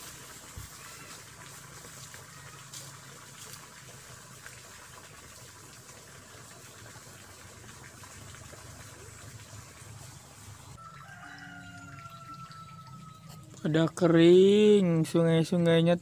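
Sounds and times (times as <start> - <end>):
stream water trickling: 0.0 - 16.0.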